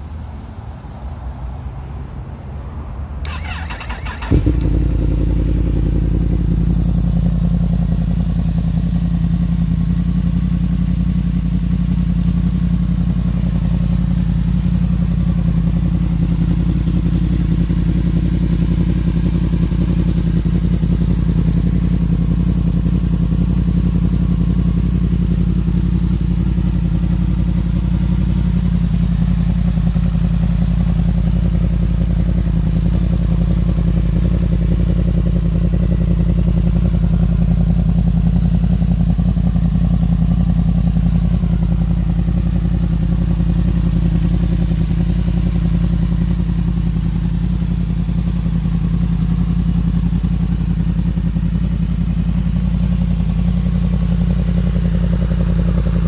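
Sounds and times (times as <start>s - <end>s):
motorcycle engine idling: 3.2s - 56.0s.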